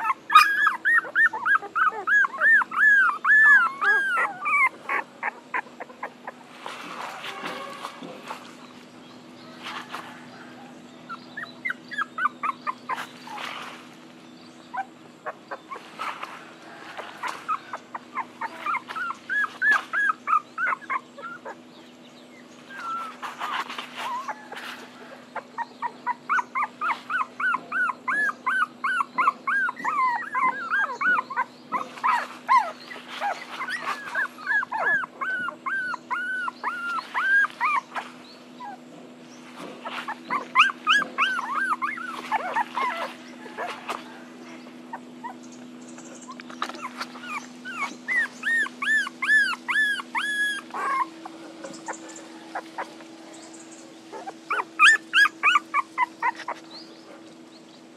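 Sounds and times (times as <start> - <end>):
puppies whining and yelping: 0.0 - 57.9.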